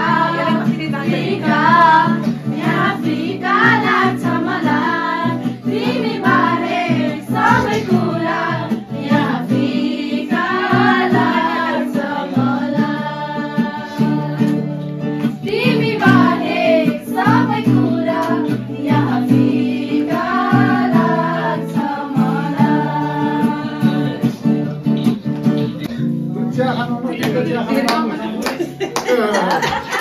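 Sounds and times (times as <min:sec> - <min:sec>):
people singing together: 0:00.0 - 0:25.6
acoustic guitar: 0:00.0 - 0:30.0.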